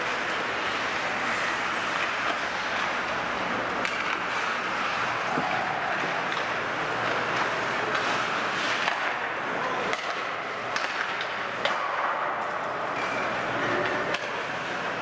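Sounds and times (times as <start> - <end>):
sticks hitting puck: 0.0 - 14.8
skates scraping ice: 0.0 - 15.0.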